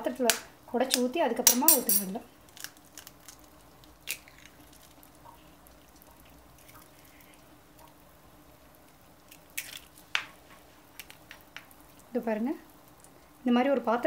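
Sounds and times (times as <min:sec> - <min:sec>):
gravy simmering and bubbling: 0:02.3 - 0:13.6.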